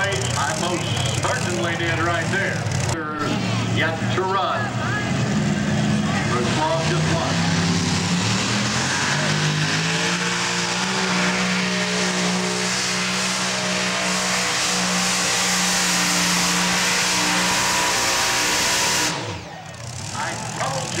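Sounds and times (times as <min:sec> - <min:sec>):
tractor engines at full throttle: 0:00.0 - 0:21.0.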